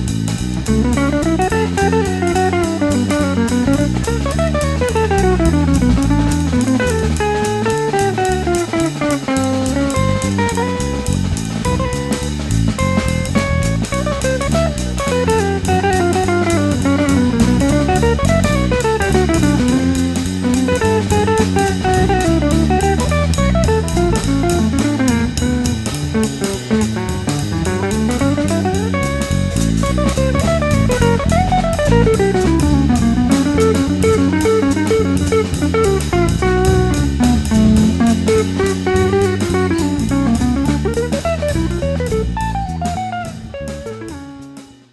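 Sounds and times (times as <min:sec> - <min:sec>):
instrumental background music: 0:00.0 - 0:44.9.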